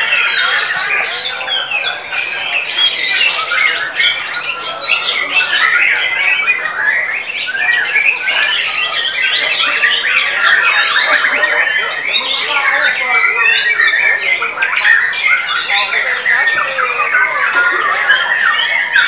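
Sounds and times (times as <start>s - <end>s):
bird singing whistles and trills: 0.0s - 19.0s.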